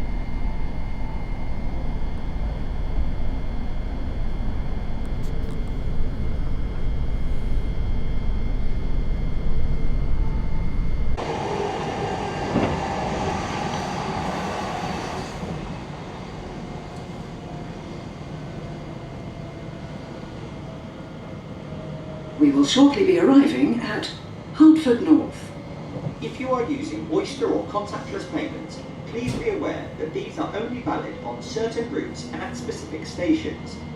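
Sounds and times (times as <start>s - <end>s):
train running rumble: 0.0s - 33.9s.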